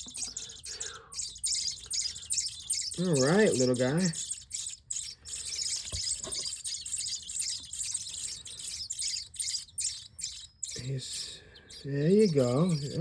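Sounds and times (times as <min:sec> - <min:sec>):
baby birds begging chirps: 0:00.0 - 0:13.0.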